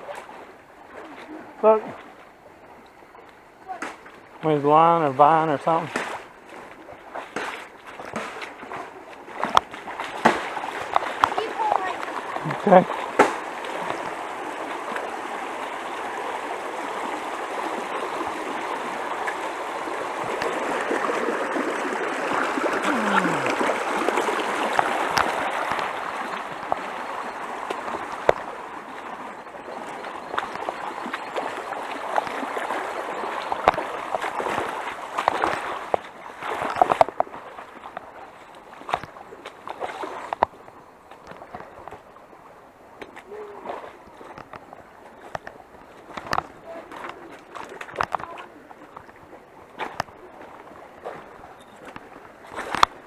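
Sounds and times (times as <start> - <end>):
stream gurgling over rocks: 0.0 - 53.0.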